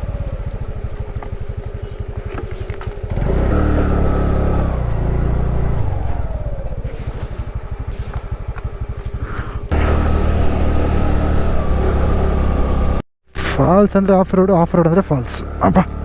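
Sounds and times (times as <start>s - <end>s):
motorcycle engine chugging: 0.0s - 16.0s.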